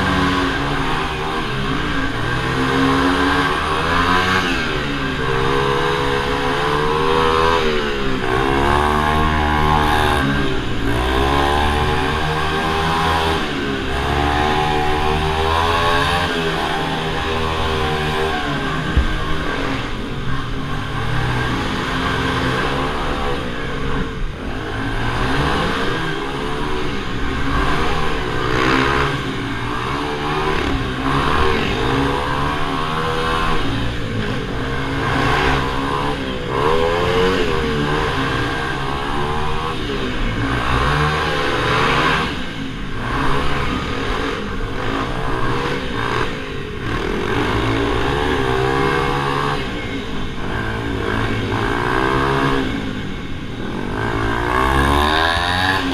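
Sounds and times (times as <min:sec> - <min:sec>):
minibike engines racing: 0:00.0 - 0:55.9.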